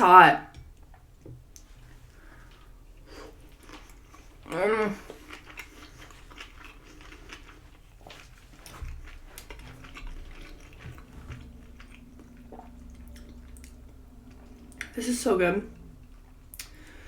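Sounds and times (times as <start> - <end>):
person chewing: 1.5 - 15.0, 15.7 - 17.0.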